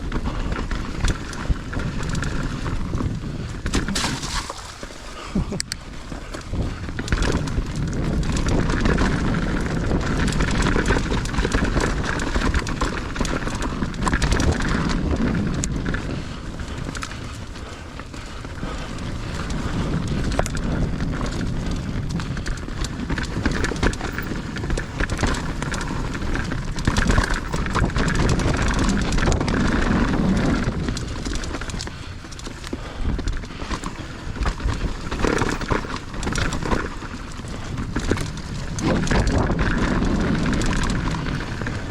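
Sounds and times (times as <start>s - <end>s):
bike chain and frame rattling: 0.0s - 41.9s
tyres rumbling over dirt: 0.0s - 41.9s.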